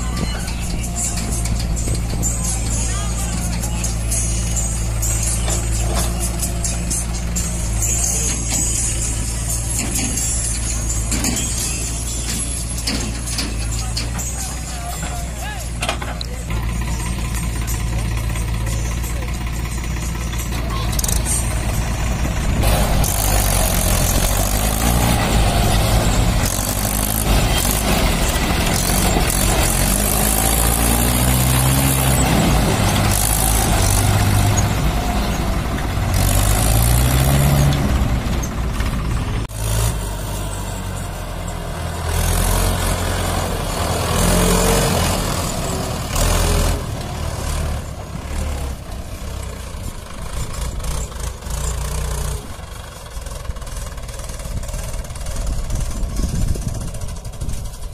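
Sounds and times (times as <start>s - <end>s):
tractor diesel engine revving: 0.0s - 57.9s.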